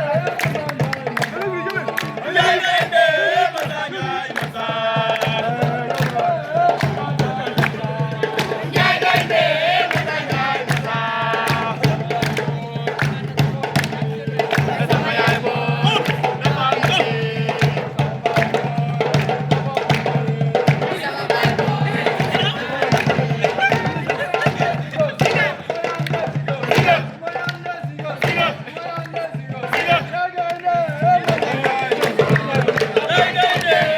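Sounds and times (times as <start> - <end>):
fast percussion beat: 0.0 - 33.9
group singing and chanting: 0.0 - 33.9.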